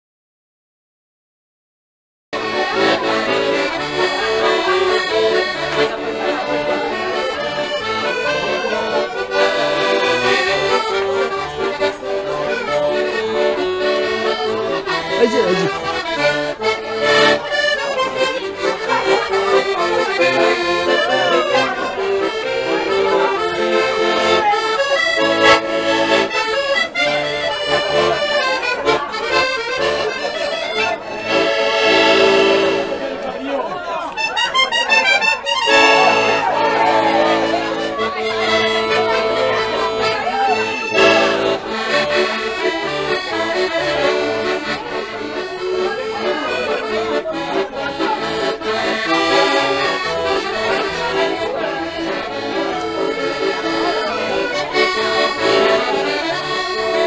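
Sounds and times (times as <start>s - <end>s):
button accordion playing: 2.4s - 57.0s.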